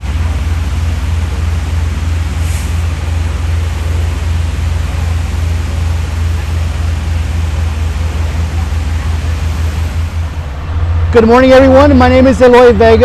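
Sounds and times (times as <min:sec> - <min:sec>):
water streams hissing: 0:00.0 - 0:10.5
pumps rumbling: 0:00.0 - 0:13.0.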